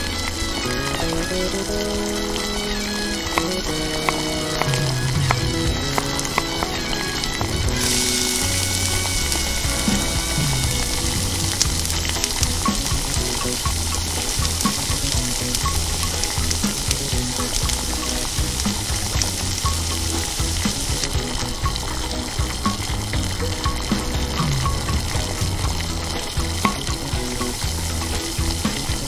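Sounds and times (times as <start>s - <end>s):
background music with beat: 0.0s - 29.0s
meat sizzling on charcoal grill: 0.0s - 29.0s.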